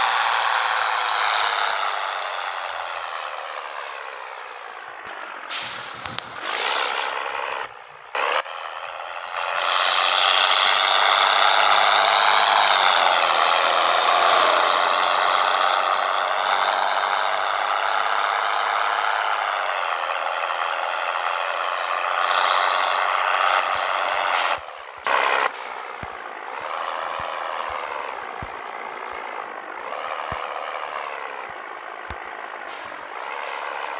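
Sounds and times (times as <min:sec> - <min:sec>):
sustained engine whine: 0:00.0 - 0:33.9
truck diesel engine under load: 0:00.0 - 0:33.9.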